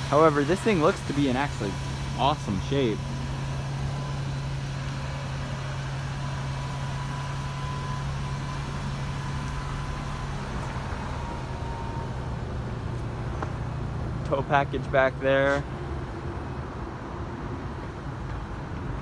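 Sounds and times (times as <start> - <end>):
van engine idling: 0.0 - 19.0.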